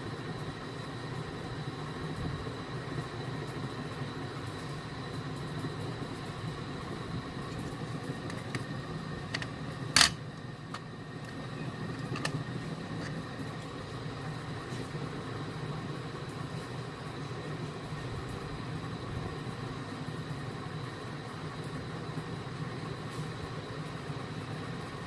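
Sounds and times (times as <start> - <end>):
faint steady whine: 0.0 - 25.0
low background hum: 0.0 - 25.0.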